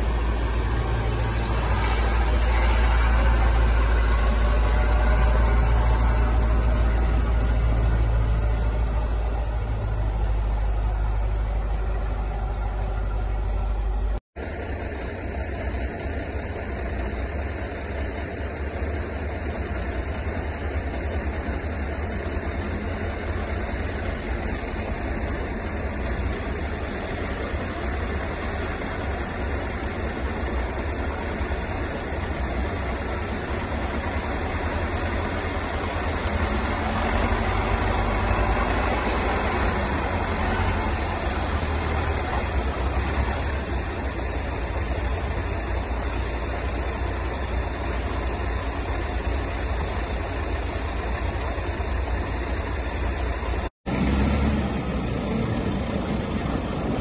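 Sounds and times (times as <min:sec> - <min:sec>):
wheel loader engine running: 0:00.0 - 0:57.0.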